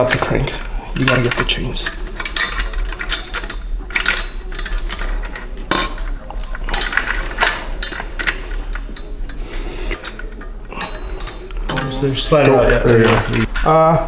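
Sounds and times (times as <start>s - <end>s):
steel engine parts clinking: 0.0s - 13.6s.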